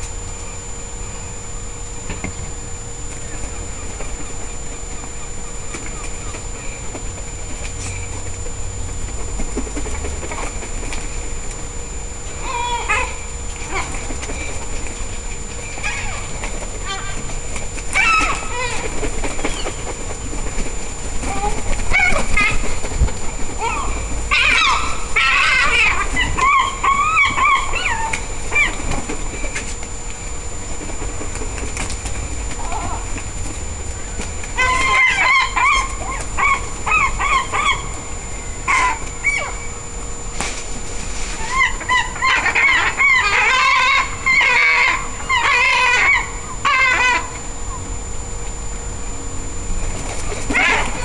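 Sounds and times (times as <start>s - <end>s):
gulls calling: 0.0s - 51.0s
wings flapping: 3.1s - 11.7s, 12.4s - 39.7s, 40.3s - 47.8s, 49.8s - 51.0s.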